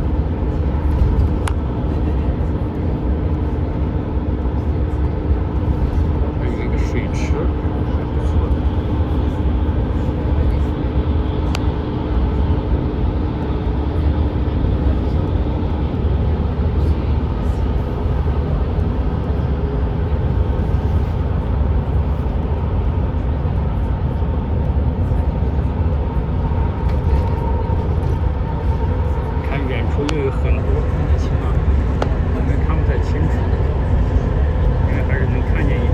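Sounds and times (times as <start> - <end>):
vehicle road and engine rumble: 0.0 - 35.9.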